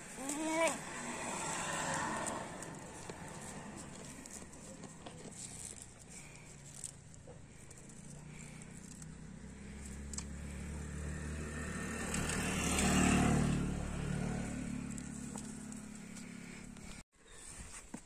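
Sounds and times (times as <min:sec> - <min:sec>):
motor vehicle driving past: 0:00.0 - 0:17.0.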